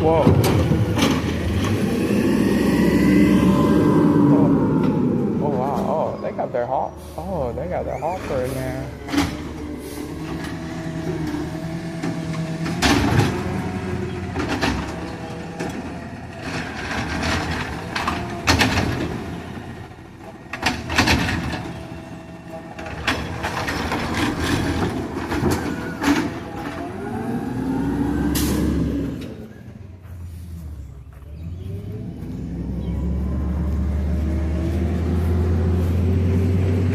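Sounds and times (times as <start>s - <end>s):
truck engine running: 0.0s - 36.9s.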